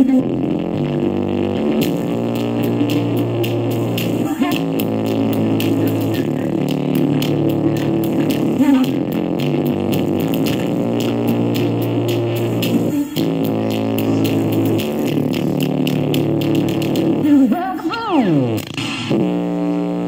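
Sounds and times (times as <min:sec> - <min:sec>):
distorted music through small speaker: 0:00.0 - 0:20.0.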